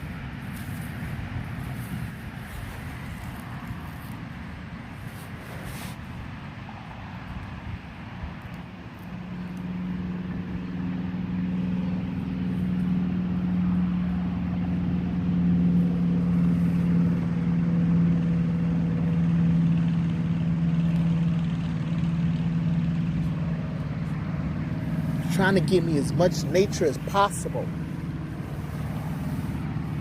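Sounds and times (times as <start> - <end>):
engine hum: 0.0 - 30.0.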